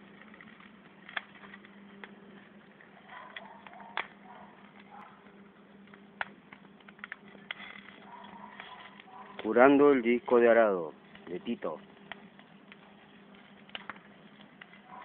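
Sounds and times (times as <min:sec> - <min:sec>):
faint steady hum: 0:00.0 - 0:15.0
wood fire crackling and popping: 0:00.0 - 0:15.0.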